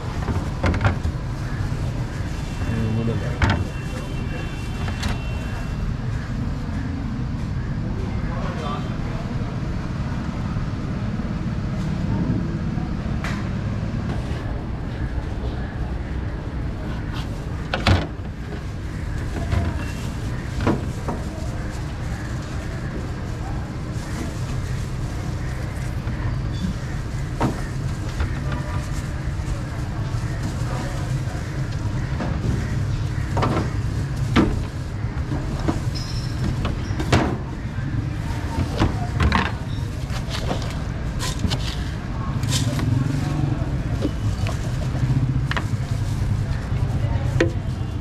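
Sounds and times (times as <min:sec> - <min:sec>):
low rumble of street traffic: 0:00.0 - 0:48.0.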